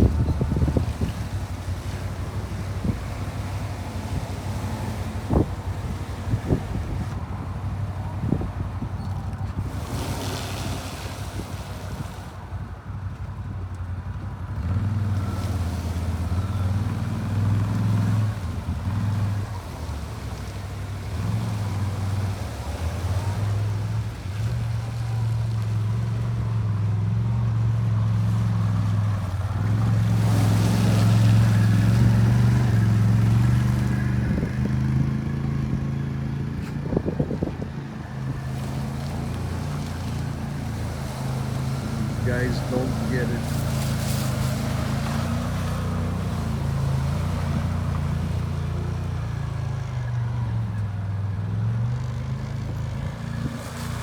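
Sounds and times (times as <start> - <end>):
tires spinning in mud: 0.0 - 54.0
truck engine labouring: 0.0 - 54.0.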